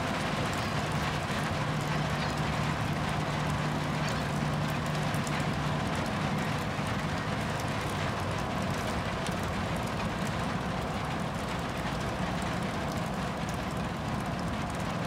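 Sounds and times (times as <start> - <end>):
rain hiss: 0.0 - 15.0
raindrops ticking: 0.0 - 15.0.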